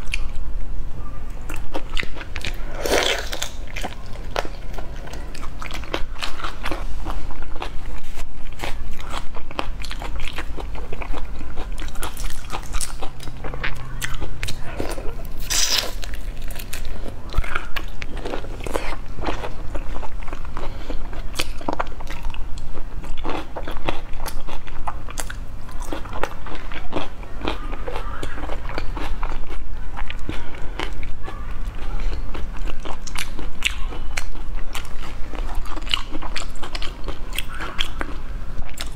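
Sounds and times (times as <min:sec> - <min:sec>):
chewing and crunching: 0:01.5 - 0:38.9.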